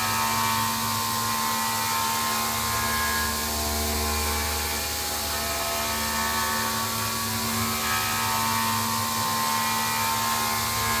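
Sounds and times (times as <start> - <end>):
cnc machine whine: 0.0 - 11.0.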